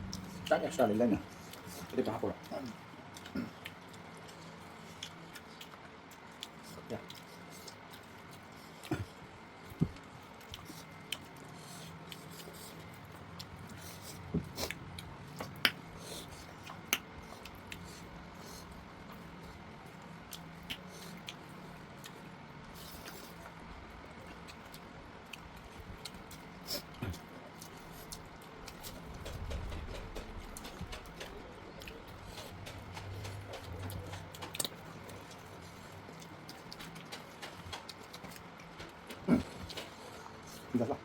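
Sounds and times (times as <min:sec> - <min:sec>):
chewing sounds: 0:00.0 - 0:41.0
low steady hum: 0:00.0 - 0:41.0.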